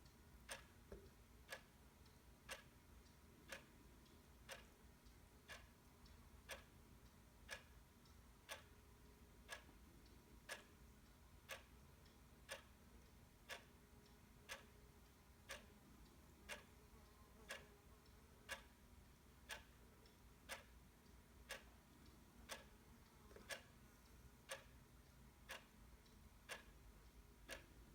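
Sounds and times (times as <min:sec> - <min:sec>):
clock ticking: 0:00.0 - 0:27.9.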